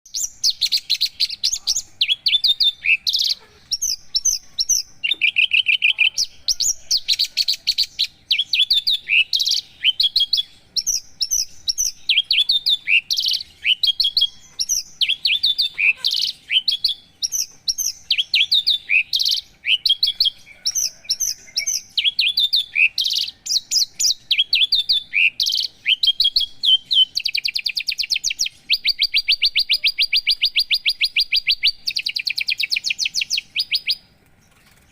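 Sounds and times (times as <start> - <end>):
bird singing chirps and trills: 0.1 - 34.9.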